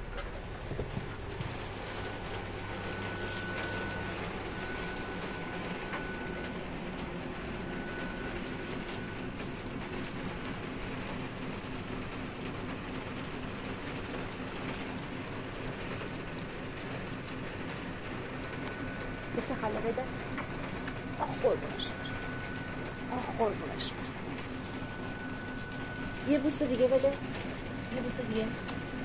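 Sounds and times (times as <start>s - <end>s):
background hum and hiss: 0.0s - 29.0s.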